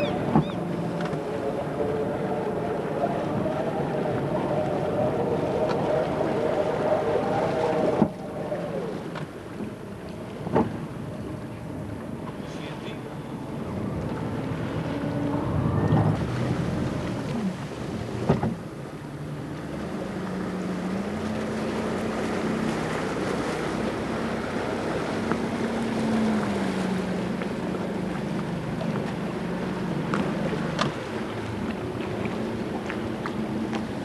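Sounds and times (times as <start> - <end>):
boat motor humming: 0.0 - 34.0
water noise: 0.0 - 34.0
wind: 0.0 - 34.0.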